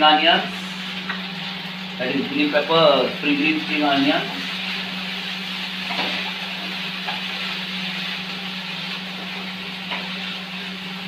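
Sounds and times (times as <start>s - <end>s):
low hum: 0.0s - 11.0s
vegetables sizzling in oil: 0.0s - 11.0s.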